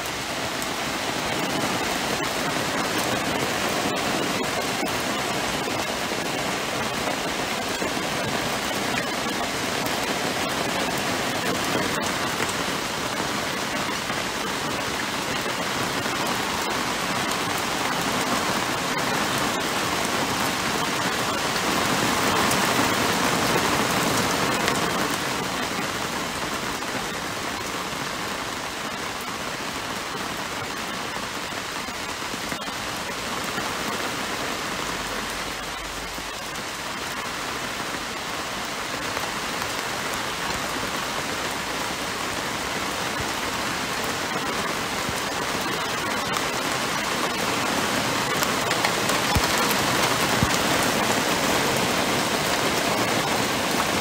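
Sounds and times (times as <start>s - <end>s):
heavy rain on a patio: 0.0s - 54.0s.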